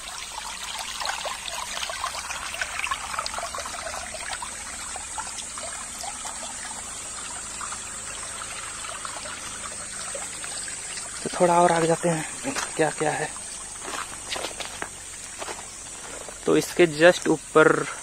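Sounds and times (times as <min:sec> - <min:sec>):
stream trickling: 0:00.0 - 0:18.0.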